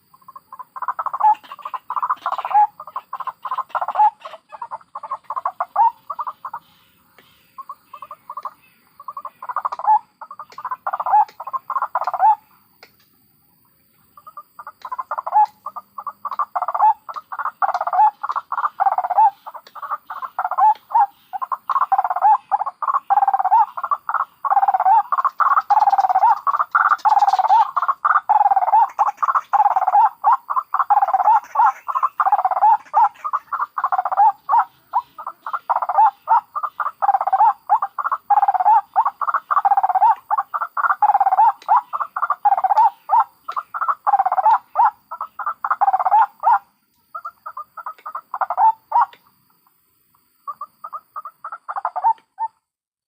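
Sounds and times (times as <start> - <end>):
waterhens croaking: 0.0 - 13.0, 13.6 - 49.7, 50.5 - 52.6.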